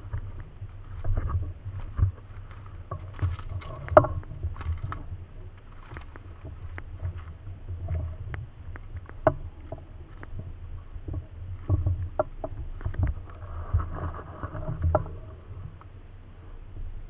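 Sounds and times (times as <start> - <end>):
handling and rustling noise: 0.0 - 15.9
clicks and light knocks: 0.0 - 16.0
low rumble: 0.0 - 17.0.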